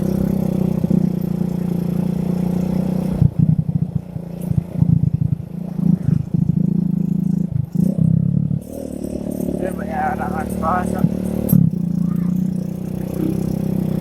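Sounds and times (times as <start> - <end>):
motorcycle engine hum: 0.0 - 14.0.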